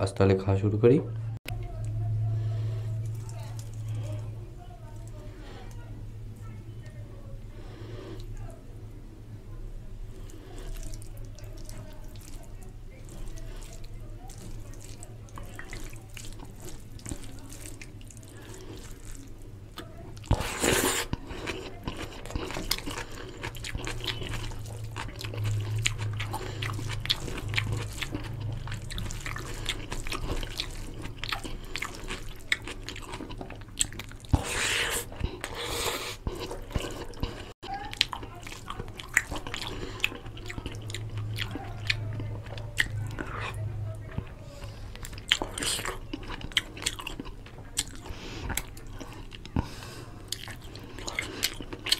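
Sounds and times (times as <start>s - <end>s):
wet chewing: 1.4s - 7.0s, 10.1s - 51.9s
fingers squishing rice and gravy: 1.5s - 7.0s, 9.9s - 51.9s.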